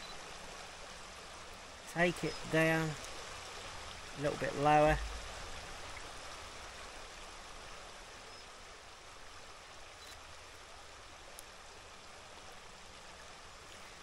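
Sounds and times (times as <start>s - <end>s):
stream running: 0.0s - 14.0s.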